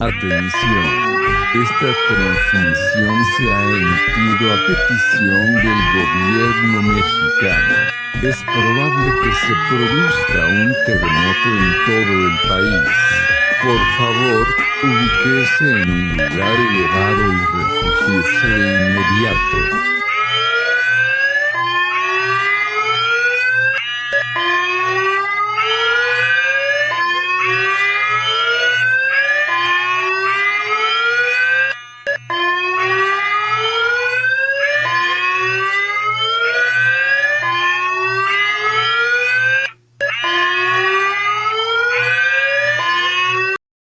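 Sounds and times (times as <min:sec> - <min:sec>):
rising electronic alarm whoop: 0:00.0 - 0:43.6.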